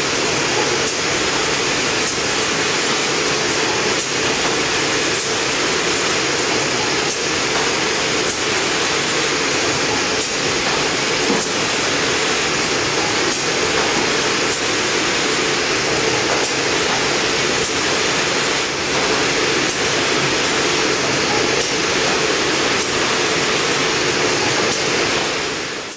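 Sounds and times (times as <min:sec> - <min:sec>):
machine running: 0:00.0 - 0:25.9.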